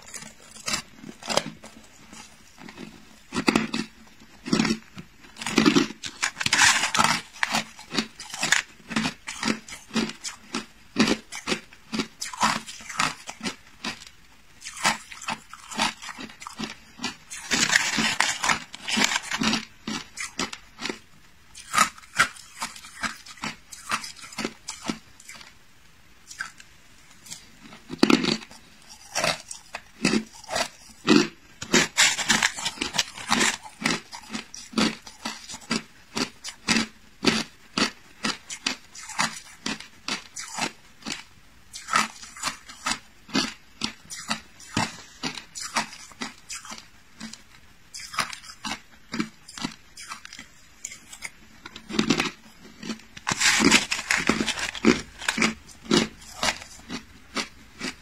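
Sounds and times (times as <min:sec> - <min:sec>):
ice being chewed: 0:00.0 - 0:25.5, 0:26.3 - 0:26.6, 0:27.2 - 0:58.0.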